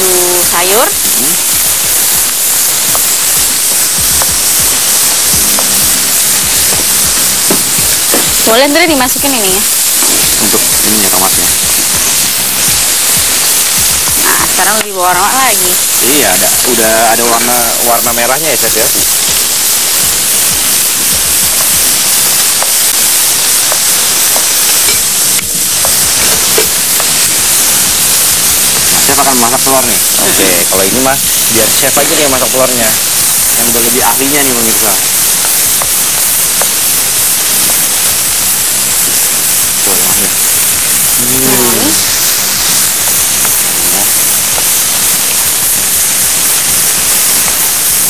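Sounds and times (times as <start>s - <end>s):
vegetables sizzling in a frying pan: 0.0s - 48.0s.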